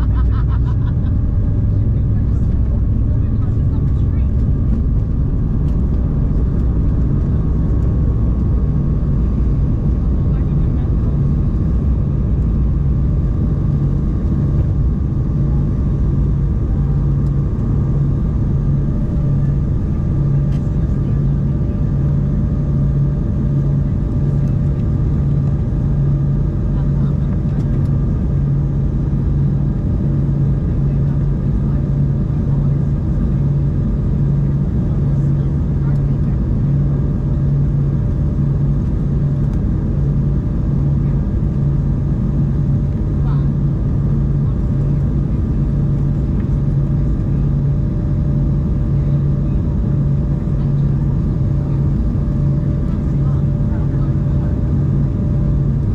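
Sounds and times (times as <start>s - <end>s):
airliner cabin engine drone: 0.0s - 55.9s
pulsing low hum: 0.0s - 55.9s.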